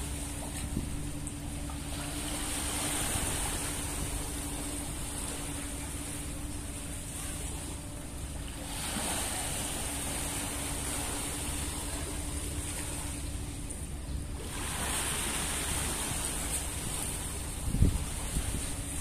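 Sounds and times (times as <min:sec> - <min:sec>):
faint hum: 0:00.0 - 0:19.0
small waves lapping: 0:00.0 - 0:19.0
steady low rumble: 0:00.0 - 0:19.0.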